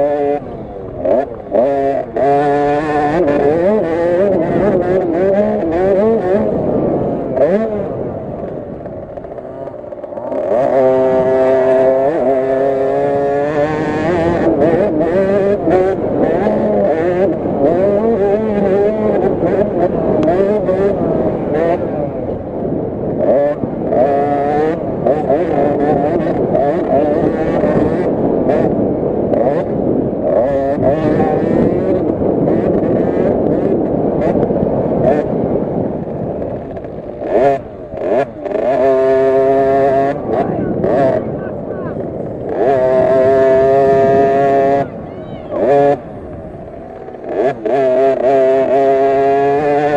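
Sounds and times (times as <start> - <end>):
two-stroke motorcycle engine revving: 0.0 - 49.9
wind on microphone: 0.0 - 49.9.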